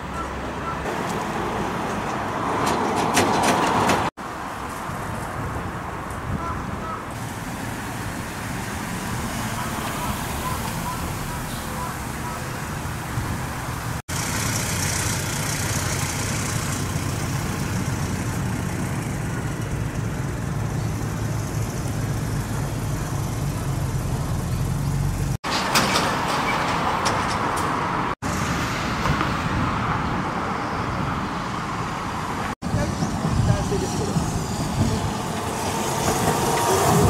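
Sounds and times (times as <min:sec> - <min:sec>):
traffic rumble of engines and tyres: 0:00.0 - 0:37.0.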